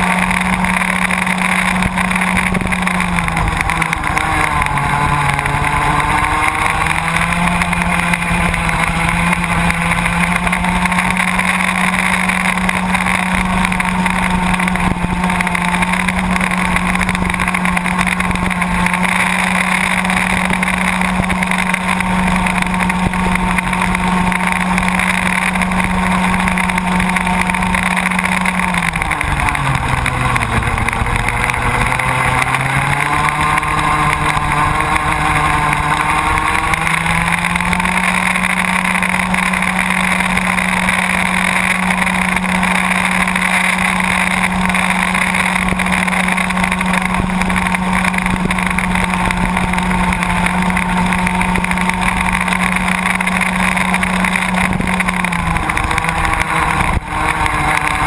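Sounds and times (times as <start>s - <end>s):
kart engine racing: 0.0s - 58.0s.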